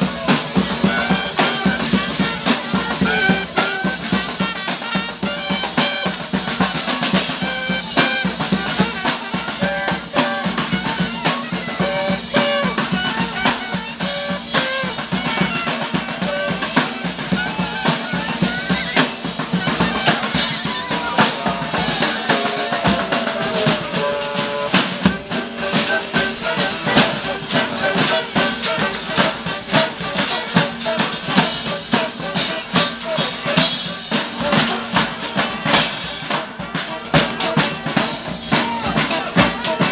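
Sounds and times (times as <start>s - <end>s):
drum kit beat: 0.0s - 39.9s
street band playing: 0.0s - 39.9s.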